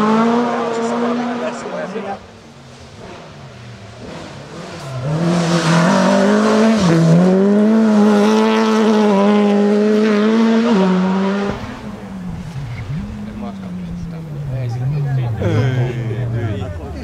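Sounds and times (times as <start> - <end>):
rally car engine passing: 0.0 - 17.0.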